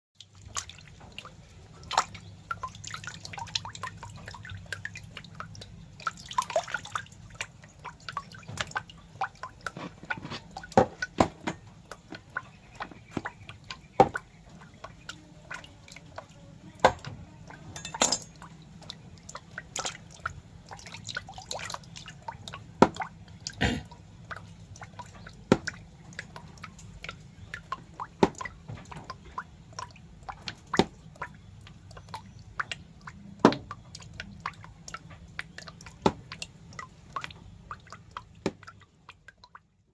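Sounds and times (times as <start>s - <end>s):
wet clicks and drips: 0.2s - 39.9s.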